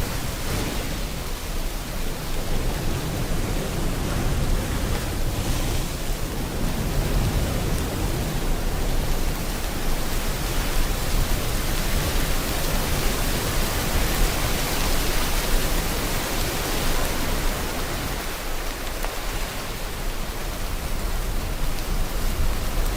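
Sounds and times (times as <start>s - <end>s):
ocean waves: 0.0s - 22.9s
steady rain: 0.0s - 22.9s.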